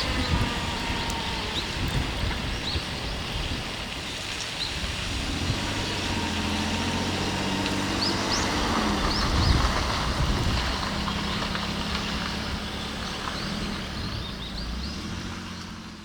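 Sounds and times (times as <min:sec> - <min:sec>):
rain: 0:00.0 - 0:16.0
vehicle engine humming: 0:00.0 - 0:16.0
wind: 0:00.0 - 0:16.0.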